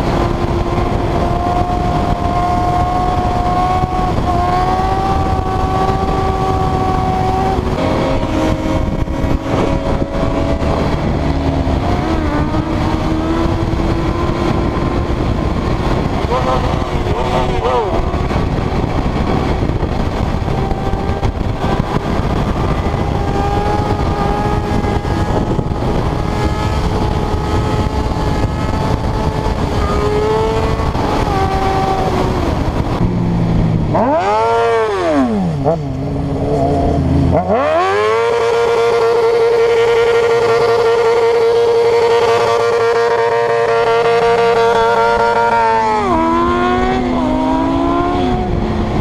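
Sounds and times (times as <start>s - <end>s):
motorcycle engine: 0.0s - 49.0s
motorcycle engine revving: 0.0s - 49.0s
wind noise: 0.0s - 49.0s.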